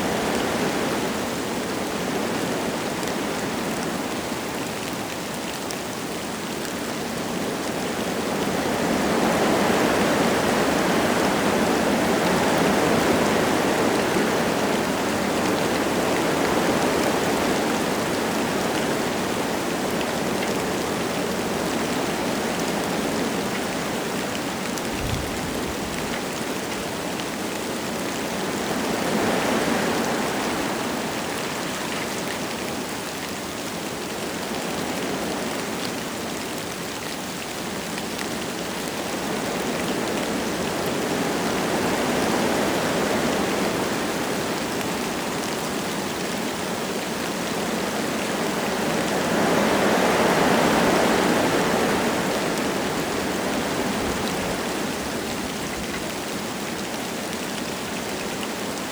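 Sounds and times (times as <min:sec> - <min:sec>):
light rain falling: 0:00.0 - 0:58.9
wind gusting through trees: 0:00.0 - 0:58.9.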